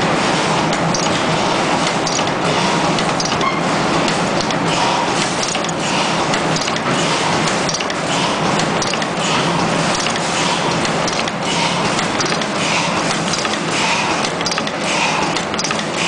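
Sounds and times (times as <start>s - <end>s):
factory machine noise: 0.0s - 16.0s.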